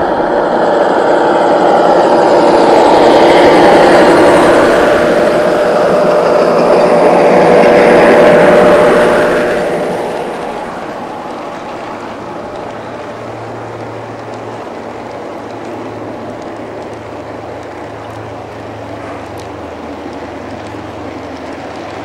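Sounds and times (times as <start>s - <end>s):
model train wheels clattering: 0.0s - 22.0s.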